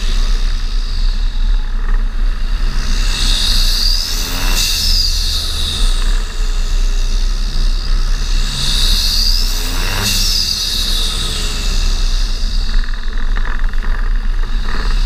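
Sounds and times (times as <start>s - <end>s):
high turbo whistle: 0.0s - 12.8s
diesel engine pulling: 0.0s - 15.0s.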